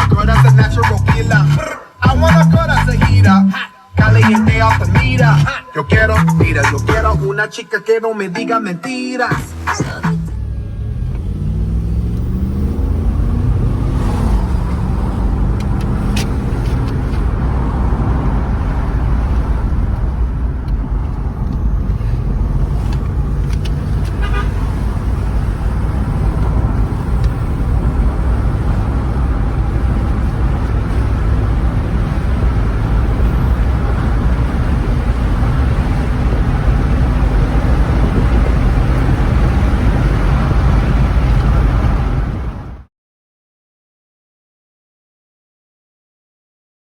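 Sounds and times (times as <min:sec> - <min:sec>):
car engine idling: 0:00.0 - 0:08.0, 0:09.1 - 0:42.8.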